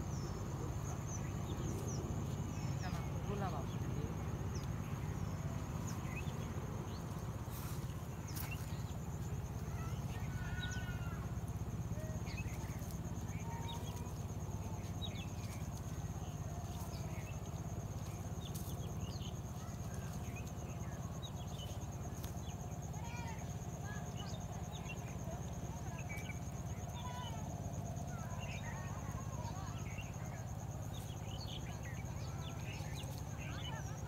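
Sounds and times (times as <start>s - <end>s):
high insect trill: 0.0s - 34.0s.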